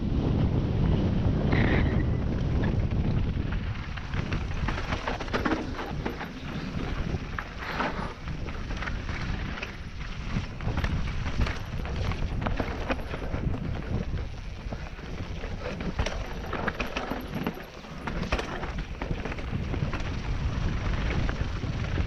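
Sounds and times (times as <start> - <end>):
tyre and wind rush: 0.0 - 22.0
bike clattering over bumps: 2.2 - 22.0.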